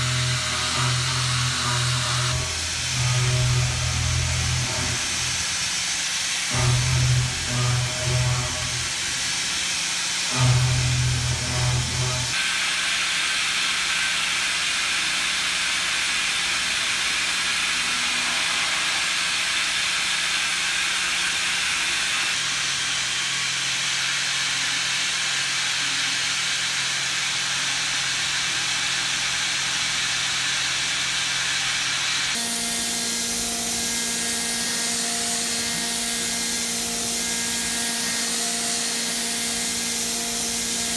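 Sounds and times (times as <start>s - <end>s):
machine cutting metal: 0.0s - 40.9s.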